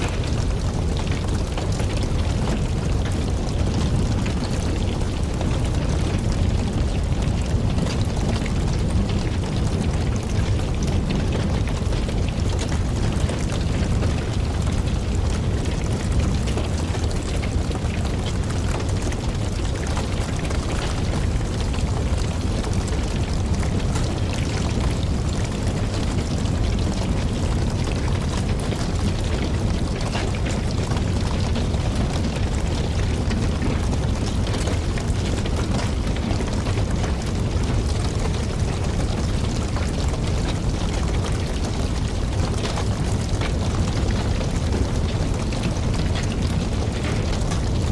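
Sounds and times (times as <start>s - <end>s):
low fire rumble: 0.0s - 47.9s
wood fire crackling: 0.0s - 47.9s.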